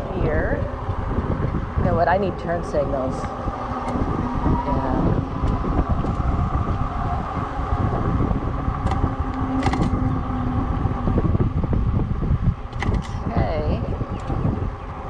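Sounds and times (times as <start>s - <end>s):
bicycle tyre rumble: 0.0s - 15.0s
wind buffeting microphone: 0.0s - 15.0s.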